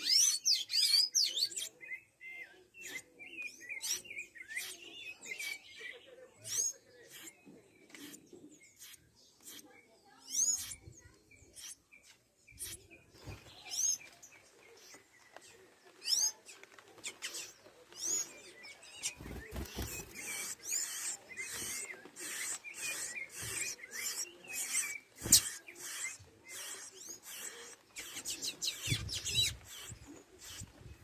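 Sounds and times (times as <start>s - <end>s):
small animals chirping and squeaking: 0.0s - 31.0s.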